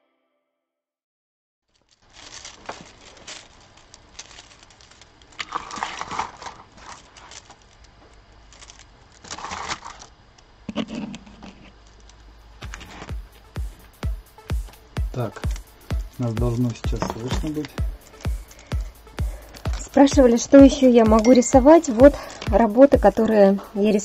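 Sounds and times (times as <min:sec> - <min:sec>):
rustling: 0:01.6 - 0:22.6.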